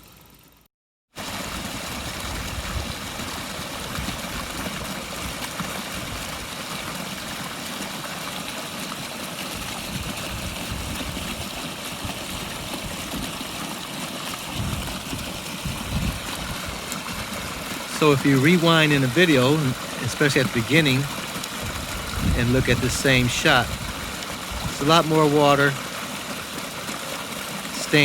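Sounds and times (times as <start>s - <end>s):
water splashing over rocks: 1.2s - 28.0s.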